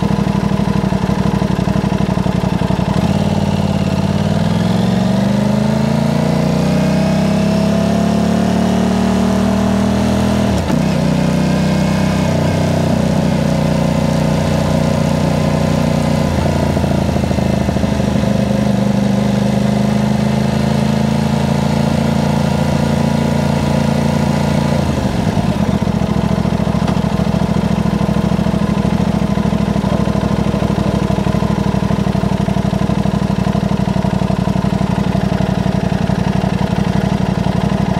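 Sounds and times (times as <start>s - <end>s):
motorcycle engine revving and idling: 0.0s - 37.9s.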